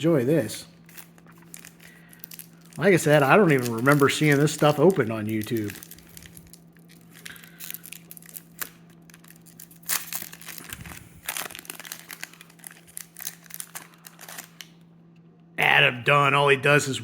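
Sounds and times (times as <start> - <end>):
faint steady hum: 0.0 - 17.0
wrapper tearing and crinkling: 0.8 - 14.8.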